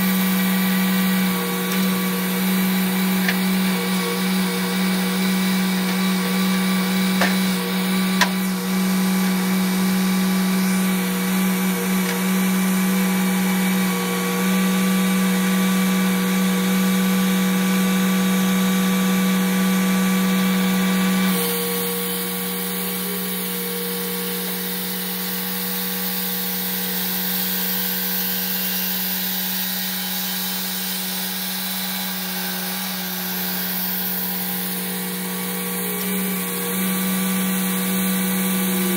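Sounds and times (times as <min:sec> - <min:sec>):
saw blade whine: 0:00.0 - 0:38.9
sawmill engine hum: 0:00.0 - 0:38.9.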